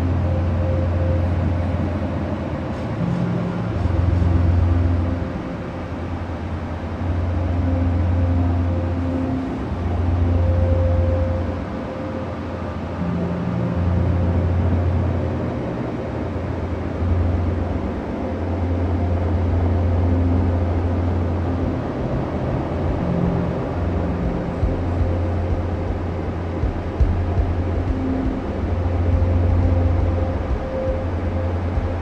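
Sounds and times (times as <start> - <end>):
bus engine drone: 0.0 - 32.0
road noise rumble: 0.0 - 32.0.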